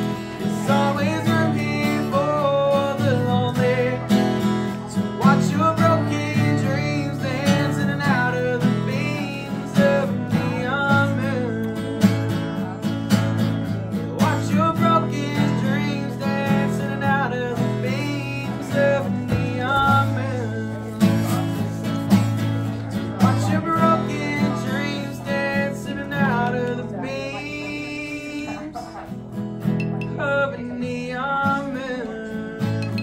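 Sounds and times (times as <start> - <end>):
acoustic guitar strumming: 0.0 - 33.0
man singing: 0.0 - 33.0.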